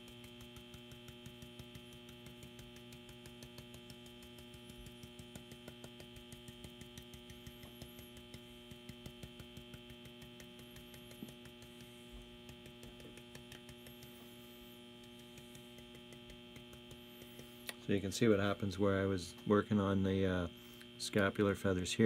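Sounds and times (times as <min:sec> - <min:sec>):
brush tapping on wood: 0:00.0 - 0:18.6
electrical mains hum: 0:00.0 - 0:22.0.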